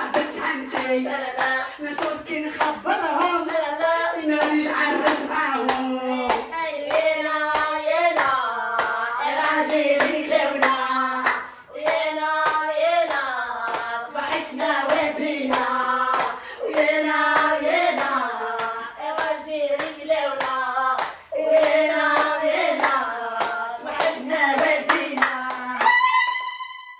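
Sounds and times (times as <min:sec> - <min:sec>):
people clapping hands: 0:00.0 - 0:26.4
woman singing: 0:00.0 - 0:26.9.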